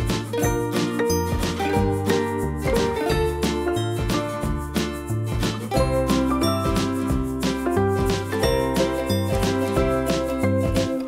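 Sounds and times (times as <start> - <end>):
cheerful music with beat: 0.0 - 11.0.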